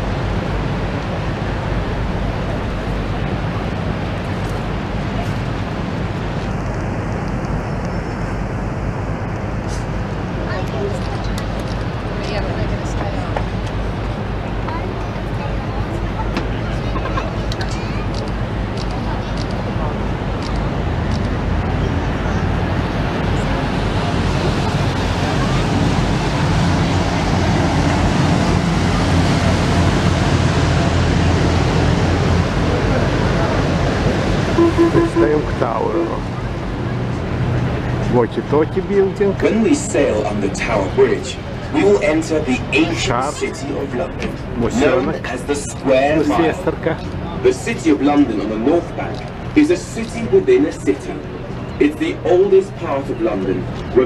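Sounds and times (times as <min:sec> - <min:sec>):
rushing water noise: 0:00.0 - 0:50.6
boat engine drone: 0:00.0 - 0:54.0
wind: 0:00.0 - 0:54.0.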